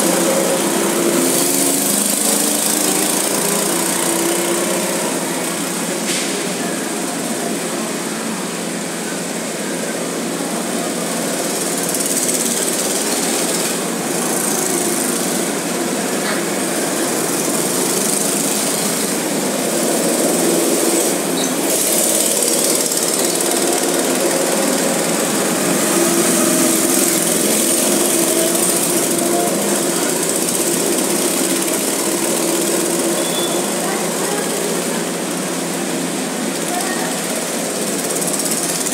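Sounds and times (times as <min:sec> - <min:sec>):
go-kart engines running: 0:00.0 - 0:38.9.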